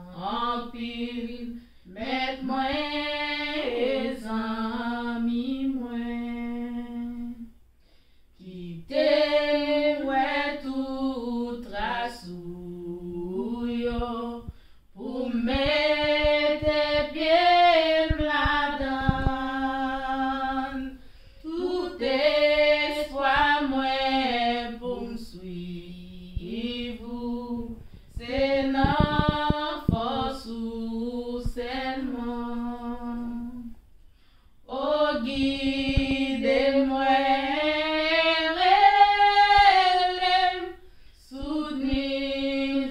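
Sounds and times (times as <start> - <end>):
women singing a hymn a cappella: 0.0 - 42.9.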